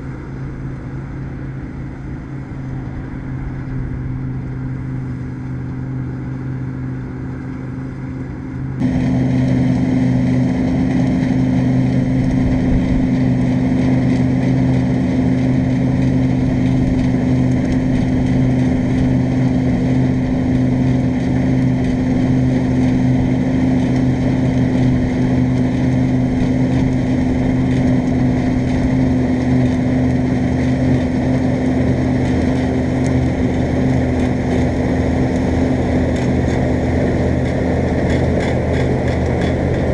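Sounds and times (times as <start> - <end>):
diesel engine hum: 0.0 - 39.9.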